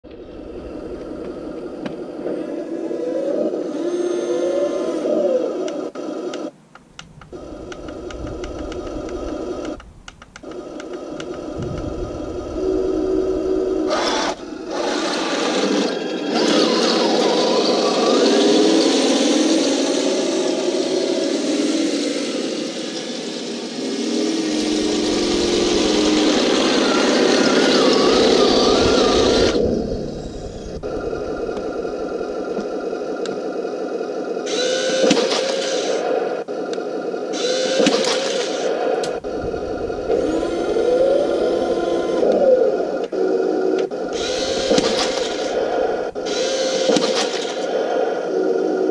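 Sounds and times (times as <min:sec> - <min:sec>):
model tank motors whining: 0:00.0 - 0:48.9.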